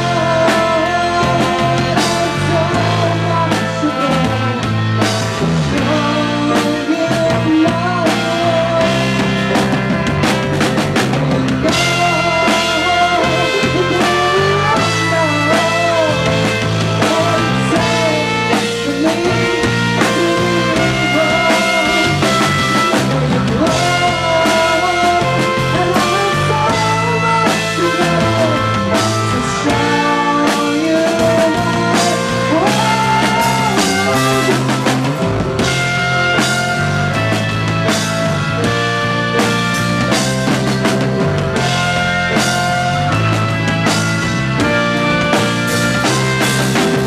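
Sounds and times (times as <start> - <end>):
drum kit: 0.0 - 47.0
guitar: 0.0 - 47.0
live rock band playing: 0.0 - 47.0.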